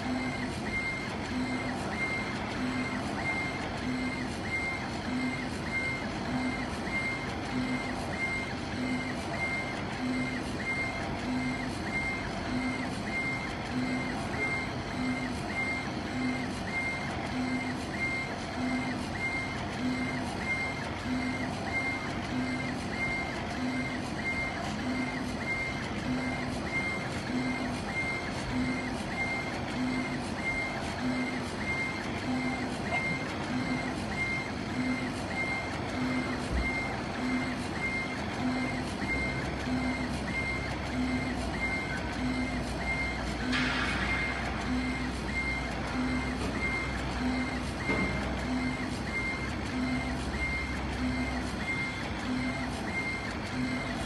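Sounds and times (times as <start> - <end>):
laser head motor tones: 0.0 - 54.0.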